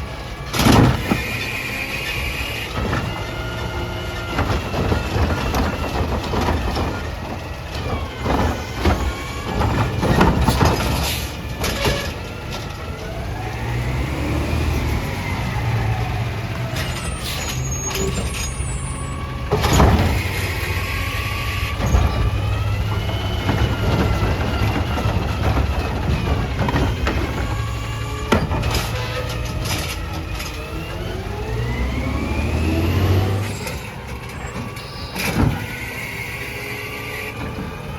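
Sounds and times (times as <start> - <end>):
diesel engine running: 0.0 - 37.9
hydraulic whine: 0.0 - 37.9.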